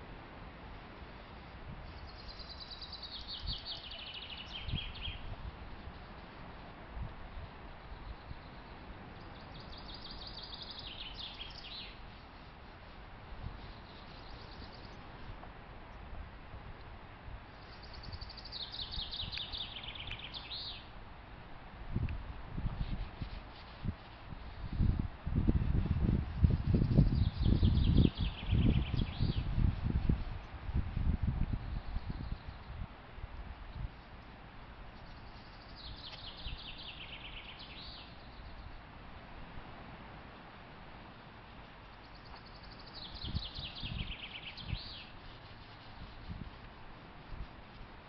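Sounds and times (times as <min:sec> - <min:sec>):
background hiss: 0:00.0 - 0:48.0
songbird singing: 0:00.8 - 0:16.1, 0:16.8 - 0:21.0, 0:25.7 - 0:39.0, 0:40.2 - 0:48.0.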